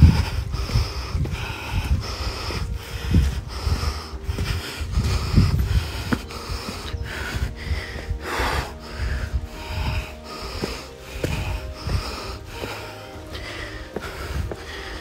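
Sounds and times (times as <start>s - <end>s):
low footfalls: 0.0s - 15.0s
person breathing hard: 0.0s - 15.0s.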